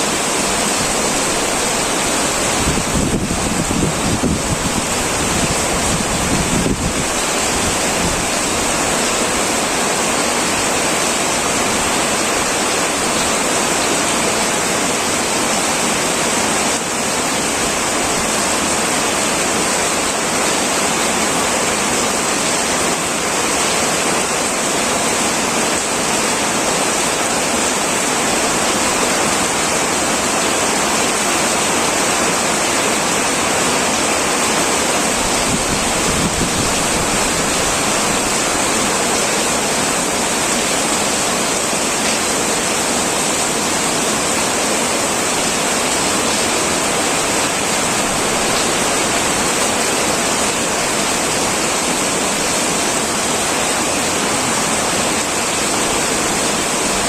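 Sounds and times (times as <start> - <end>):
heavy rain on tin roof: 0.0 - 57.0.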